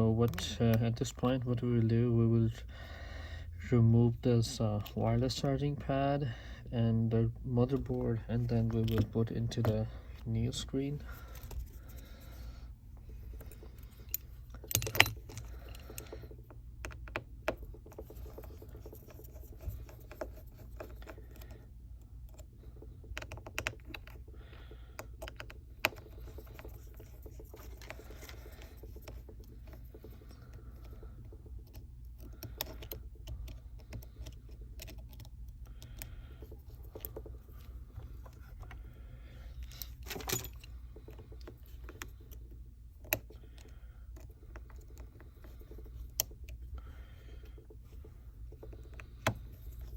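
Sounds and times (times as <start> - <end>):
steady low hum: 0.0 - 49.9
small tools clicking on phone parts: 7.6 - 49.9.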